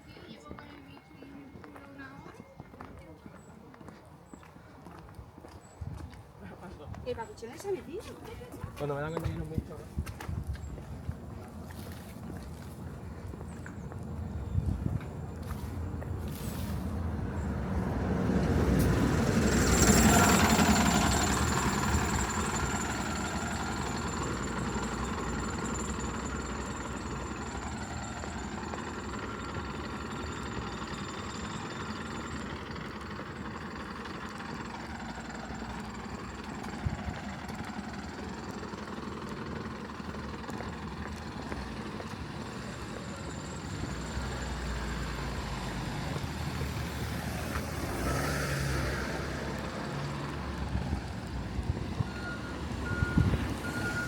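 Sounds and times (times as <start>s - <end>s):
vehicle engine rumble: 0.0s - 54.0s.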